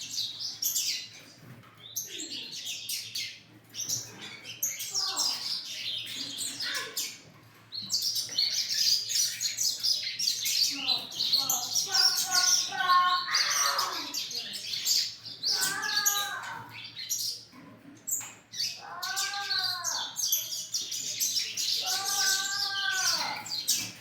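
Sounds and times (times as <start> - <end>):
young birds chirping: 0.0 - 24.0.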